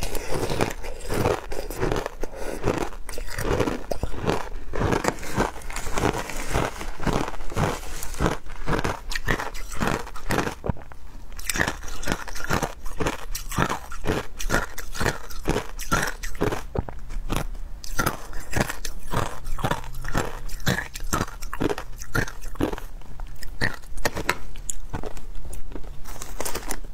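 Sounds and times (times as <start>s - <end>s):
ice crunching between teeth: 0.0s - 10.8s, 11.4s - 26.9s.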